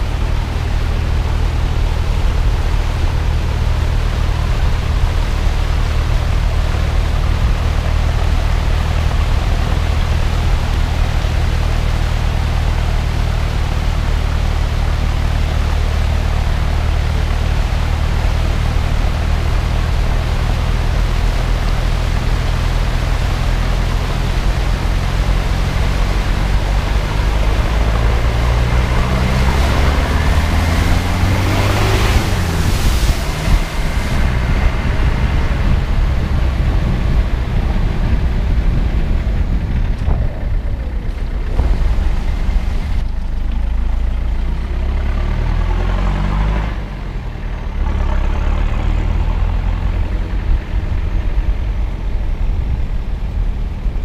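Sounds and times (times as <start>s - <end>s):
vehicle engine revving: 0.0s - 54.0s
water rushing and spraying: 0.0s - 54.0s.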